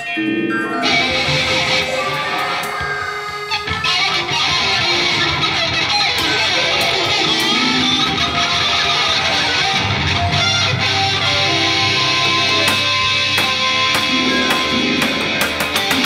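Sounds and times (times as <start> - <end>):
electric guitar: 0.0 - 16.0.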